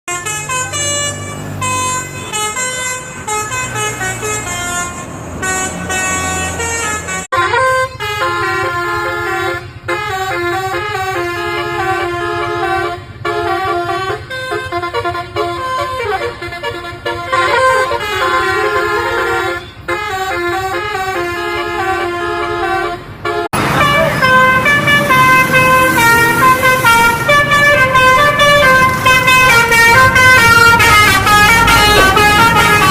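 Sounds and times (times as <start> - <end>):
musical bus horn playing tune: 0.1 - 32.9.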